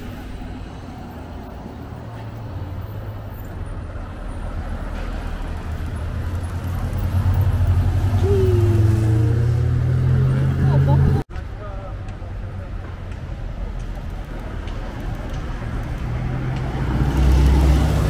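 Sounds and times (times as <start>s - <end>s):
car engines humming: 0.0s - 18.0s.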